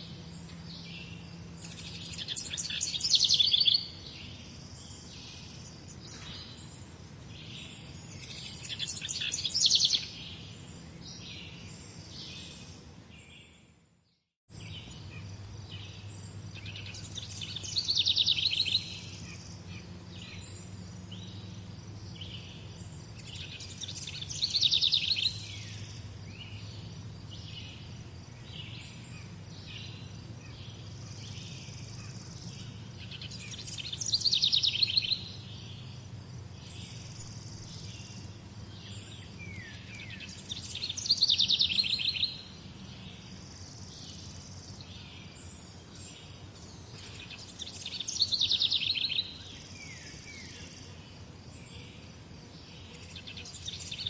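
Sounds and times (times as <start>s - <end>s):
bird trilling song: 0.0s - 13.6s, 14.5s - 51.0s, 52.6s - 54.0s
songbirds chirping: 0.0s - 54.0s.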